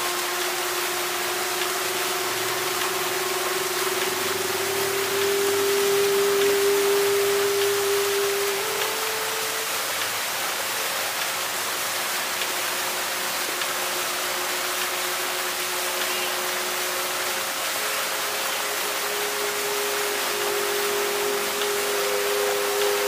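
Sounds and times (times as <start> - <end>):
fountain jets splashing: 0.0 - 23.0
long held musical notes: 0.0 - 23.0.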